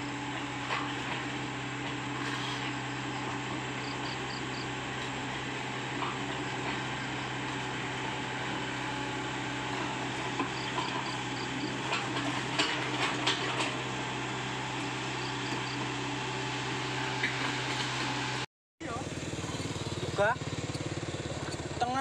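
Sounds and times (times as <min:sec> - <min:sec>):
excavator diesel engine humming: 0:00.0 - 0:22.0.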